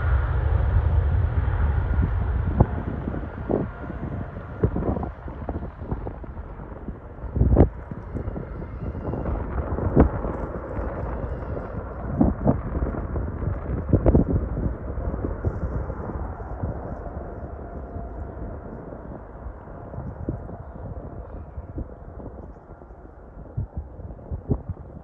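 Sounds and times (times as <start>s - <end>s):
jet airliner engines rumbling: 0.0s - 25.0s
wind thumping on microphone: 0.0s - 25.0s.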